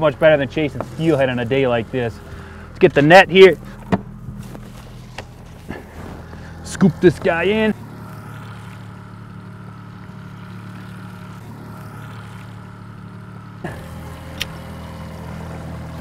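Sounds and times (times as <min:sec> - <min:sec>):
outboard motor humming: 0:00.0 - 0:16.0
water noise: 0:00.0 - 0:16.0.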